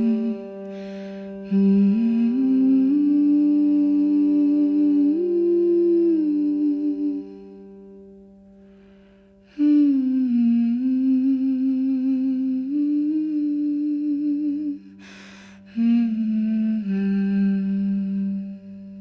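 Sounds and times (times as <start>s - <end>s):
person humming: 0.0s - 7.8s, 9.4s - 19.0s.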